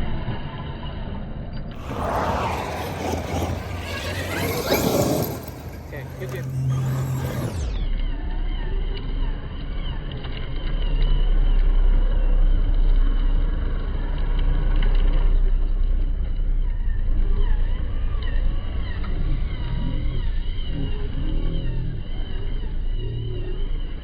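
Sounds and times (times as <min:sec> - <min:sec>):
truck engines droning: 0:01.7 - 0:24.0
wavering high whine: 0:01.7 - 0:24.0.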